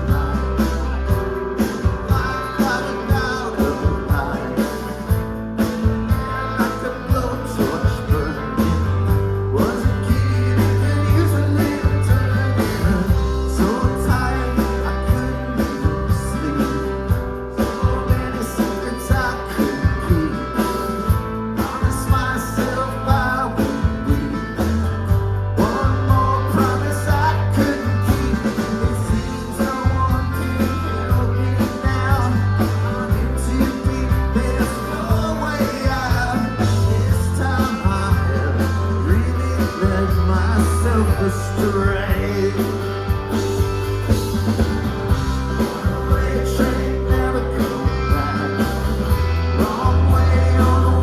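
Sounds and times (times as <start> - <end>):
rock band playing: 0.0 - 51.0.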